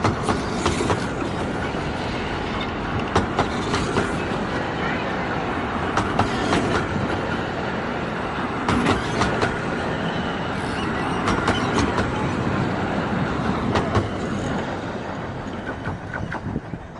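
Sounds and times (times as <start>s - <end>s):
train rumbling past: 0.0s - 16.9s
wheels clacking over rail joints: 0.0s - 16.9s.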